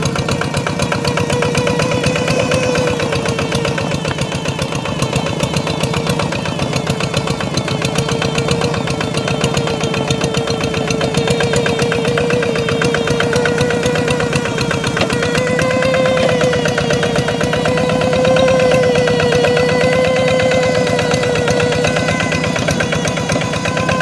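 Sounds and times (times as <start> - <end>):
diesel engine chugging: 0.0 - 24.0
steady hum: 0.0 - 24.0.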